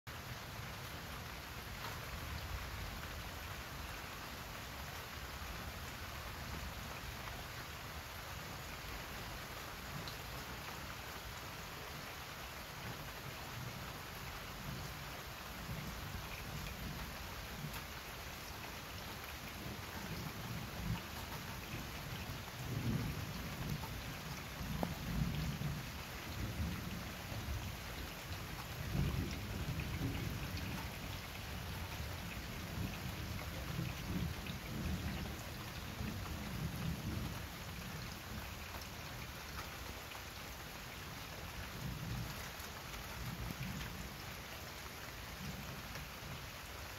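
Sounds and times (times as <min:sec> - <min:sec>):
rain on leaves and patio: 0:00.1 - 0:46.9.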